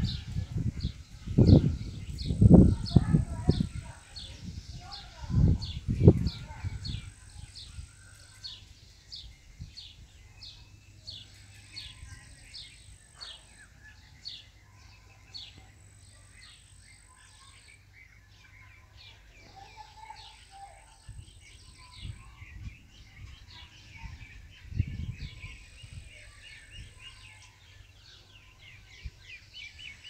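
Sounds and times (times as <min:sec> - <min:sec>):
small bird chirping: 0:00.0 - 0:30.0.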